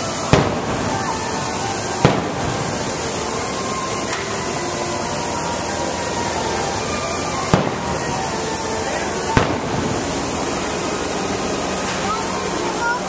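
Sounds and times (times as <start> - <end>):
firework shells bursting: 0.0 - 12.9
background hiss: 0.0 - 13.0.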